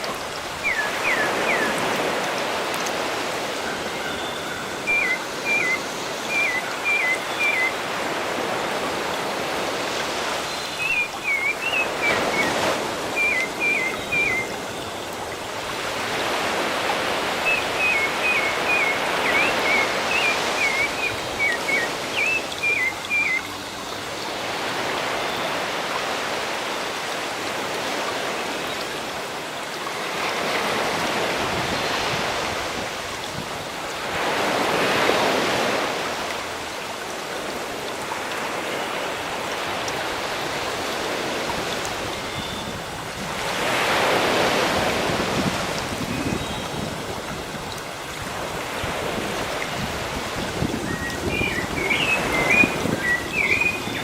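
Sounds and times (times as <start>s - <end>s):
sea waves washing: 0.0s - 54.0s.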